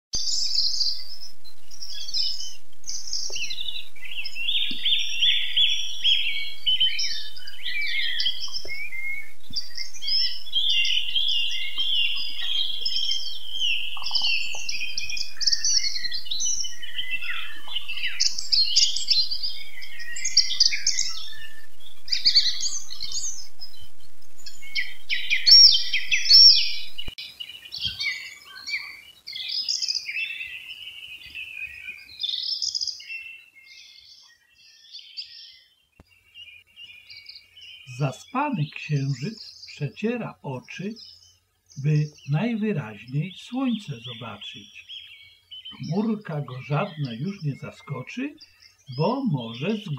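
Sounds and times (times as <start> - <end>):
songbirds singing: 0.2 - 49.9.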